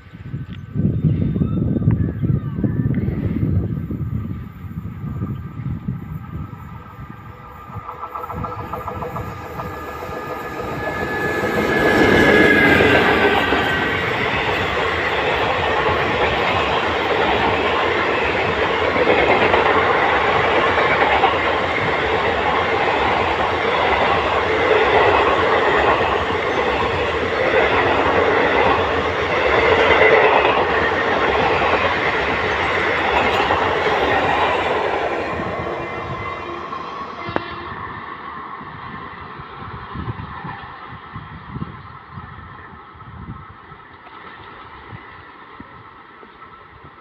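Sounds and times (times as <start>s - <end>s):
rushing noise of passing coaches: 0.0s - 41.7s
electric locomotive passing: 0.0s - 47.0s.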